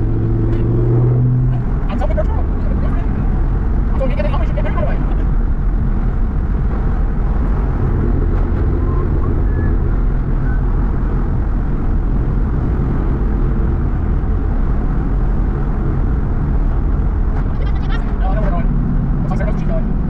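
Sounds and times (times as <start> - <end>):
vehicle road rumble: 0.0 - 20.0.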